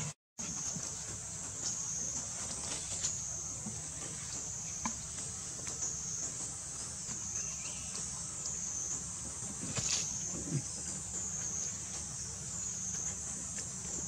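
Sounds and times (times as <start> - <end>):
high-pitched insect chorus: 0.4 - 14.0.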